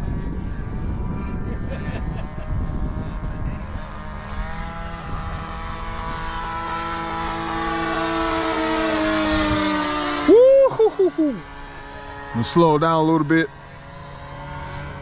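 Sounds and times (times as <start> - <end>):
model airplane motor droning: 0.0 - 15.0.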